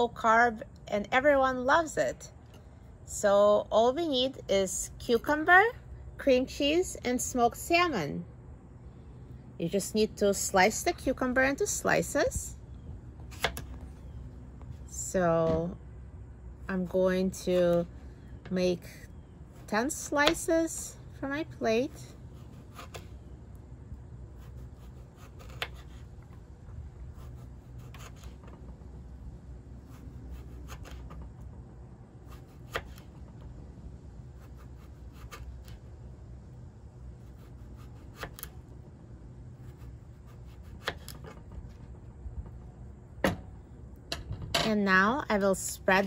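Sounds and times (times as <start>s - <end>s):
low steady rumble: 0.0s - 46.0s.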